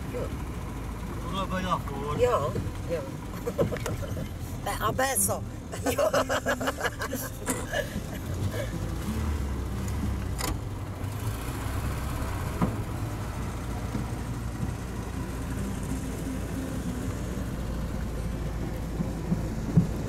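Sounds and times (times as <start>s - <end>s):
car engine running with low rumble: 0.0s - 20.0s.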